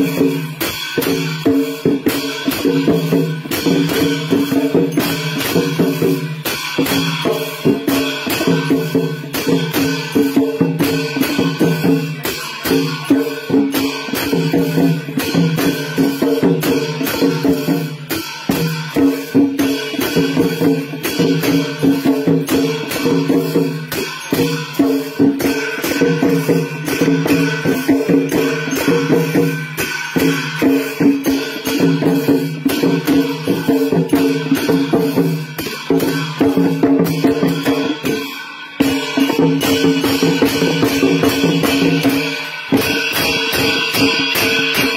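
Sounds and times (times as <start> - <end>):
cymbals: 0.0 - 44.9
drums: 0.0 - 44.9.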